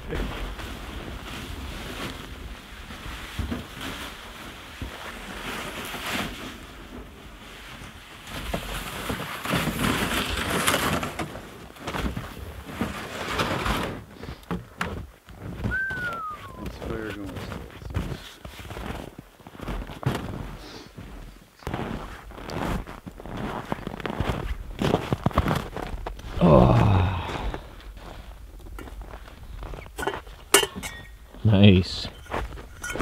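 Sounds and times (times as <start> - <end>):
footsteps crunching in snow: 0.2 - 14.0, 14.9 - 33.0.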